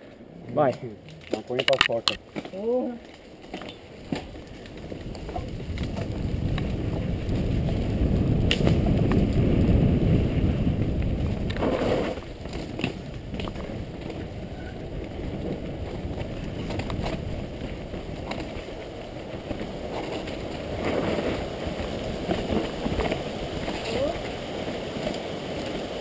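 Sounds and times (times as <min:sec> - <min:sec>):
tyres rolling over dirt: 0:00.1 - 0:26.0
bike knocks and rattles: 0:00.6 - 0:09.4, 0:10.7 - 0:24.0
wind on microphone: 0:04.1 - 0:26.0.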